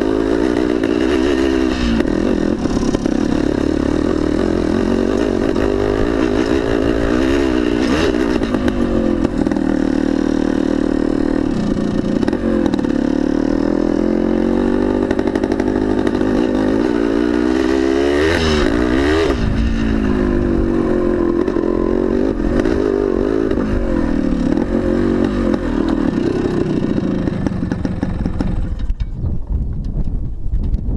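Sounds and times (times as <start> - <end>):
two-stroke motorcycle engine revving: 0.0 - 29.1.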